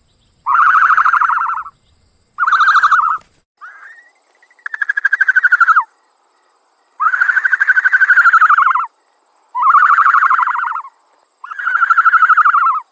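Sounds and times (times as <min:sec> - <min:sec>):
bird trilled calls: 0:00.0 - 0:05.9, 0:07.0 - 0:08.9, 0:09.6 - 0:12.9.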